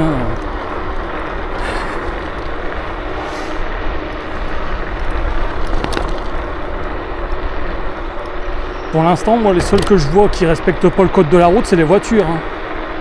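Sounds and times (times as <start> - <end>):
electric scooter rumble: 0.0 - 13.0.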